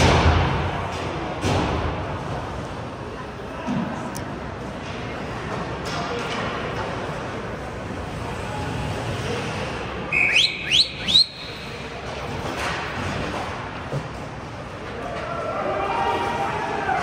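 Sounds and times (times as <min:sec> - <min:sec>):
arena background noise: 0:00.0 - 0:17.0.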